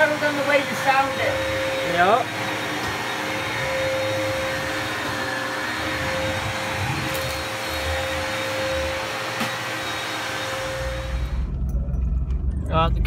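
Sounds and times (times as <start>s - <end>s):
vacuum cleaner running: 0.0s - 11.6s.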